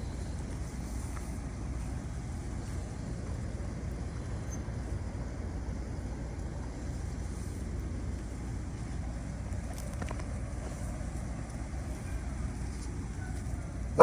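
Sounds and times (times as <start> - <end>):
steady low outdoor rumble: 0.0 - 14.0.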